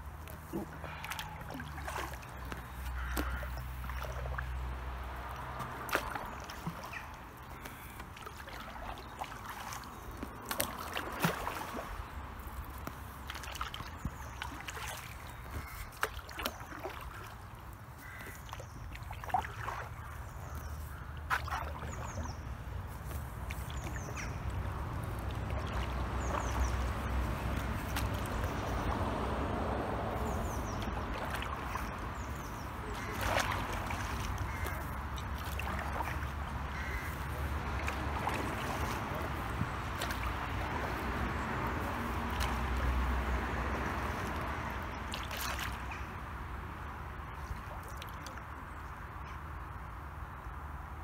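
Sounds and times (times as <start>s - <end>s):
paddle pulling through water: 0.0s - 50.4s
water drips and splashes: 0.0s - 50.8s.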